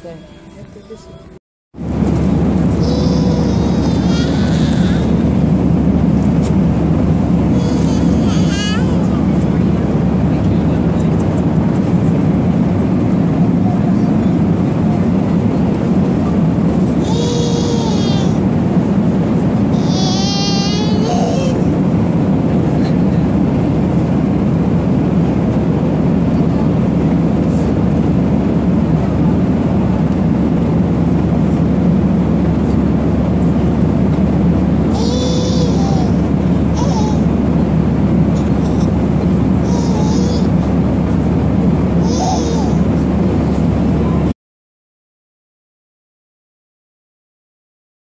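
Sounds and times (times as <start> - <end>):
airliner cabin engine rumble: 0.0 - 44.4.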